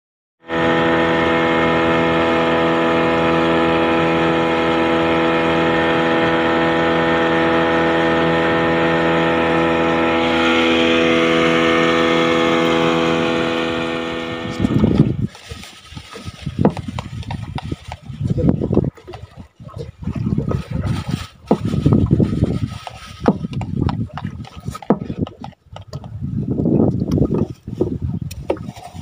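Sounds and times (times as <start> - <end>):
boat engine running: 0.4 - 29.0
water rushing along hull: 0.4 - 29.0.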